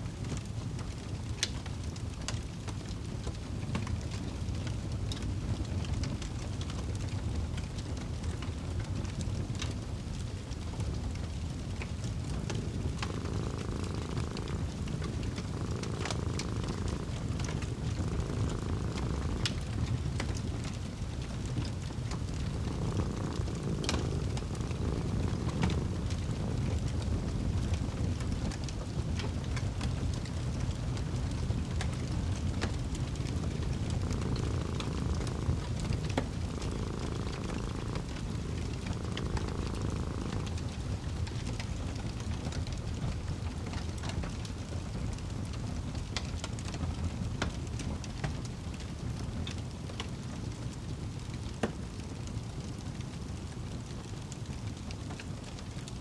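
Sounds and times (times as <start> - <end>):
cat purring: 0.1 - 56.0
wood fire crackling: 0.1 - 56.0.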